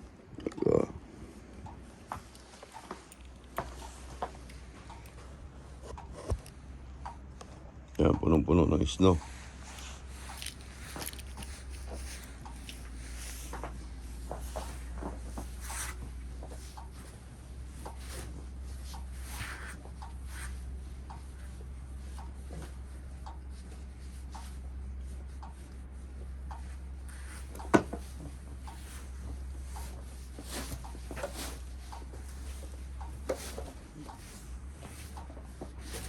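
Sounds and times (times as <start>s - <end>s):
steady low hum: 0.0s - 36.0s
light scraping and rubbing: 1.8s - 6.7s, 9.1s - 22.8s, 23.5s - 36.0s.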